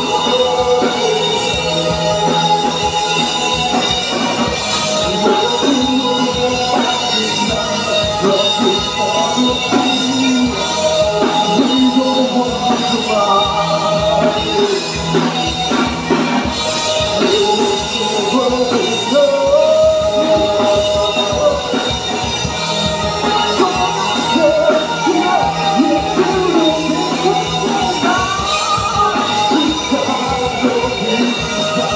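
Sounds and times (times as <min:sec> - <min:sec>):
drum kit: 0:00.0 - 0:31.9
electric guitars: 0:00.0 - 0:31.9
person singing: 0:00.0 - 0:31.9.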